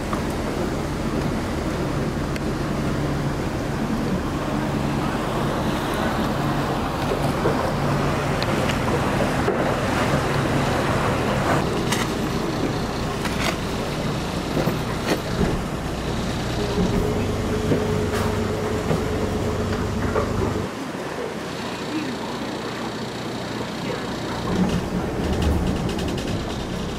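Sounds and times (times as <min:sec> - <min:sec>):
speedboat engine running: 0:00.0 - 0:26.9
water rushing along hull: 0:00.0 - 0:26.9.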